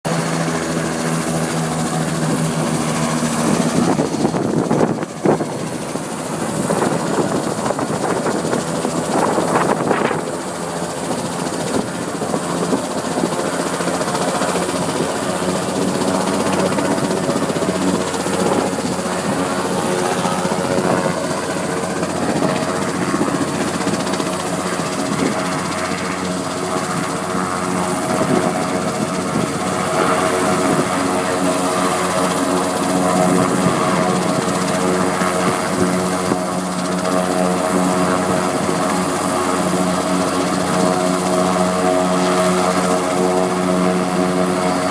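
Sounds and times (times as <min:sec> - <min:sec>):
helicopter engine and rotor hum: 0:00.0 - 0:44.9.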